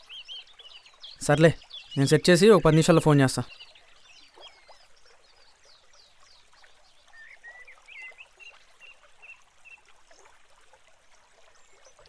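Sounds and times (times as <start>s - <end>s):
birdsong chirps: 0.0s - 10.5s, 11.2s - 12.0s.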